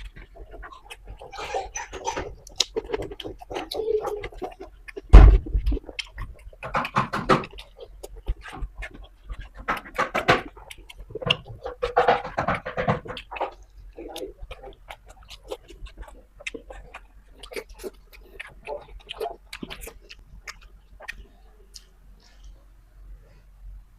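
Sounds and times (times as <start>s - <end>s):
wet chewing and lip-smacking: 0.0s - 22.8s.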